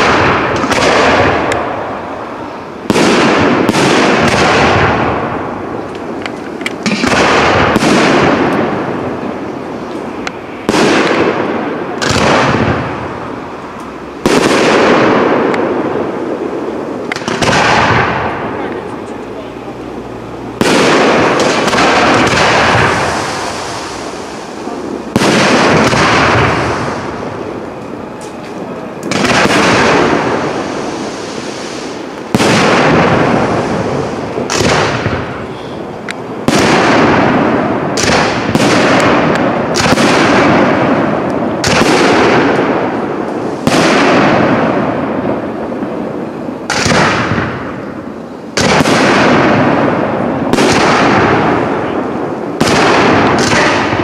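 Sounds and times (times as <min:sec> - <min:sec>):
firework shells bursting: 0:00.0 - 0:54.0.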